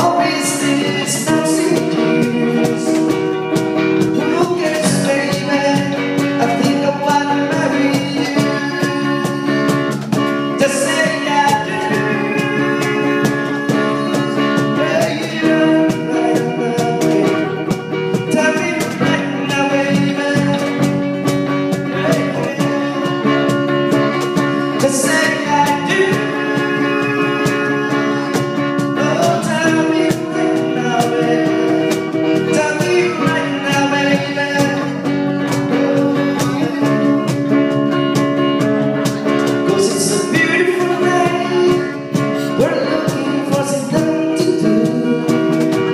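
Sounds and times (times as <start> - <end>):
person singing: 0.0 - 37.9, 39.0 - 45.9
live band playing: 0.0 - 45.9.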